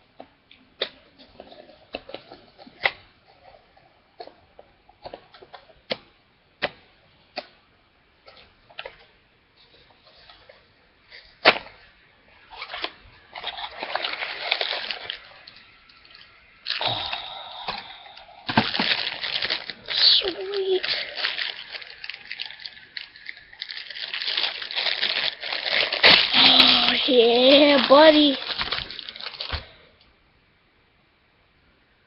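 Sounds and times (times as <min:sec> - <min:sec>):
plastic crinkling and rustling: 0:00.9 - 0:05.9, 0:08.2 - 0:30.0.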